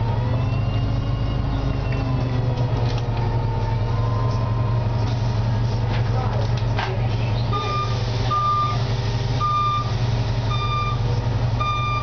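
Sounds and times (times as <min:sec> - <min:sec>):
bus engine low drone: 0:00.0 - 0:12.0.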